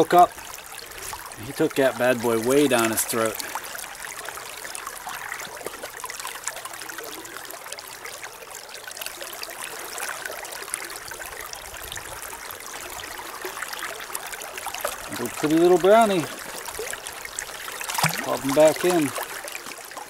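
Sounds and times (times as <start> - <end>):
river current trickling: 0.0 - 20.0.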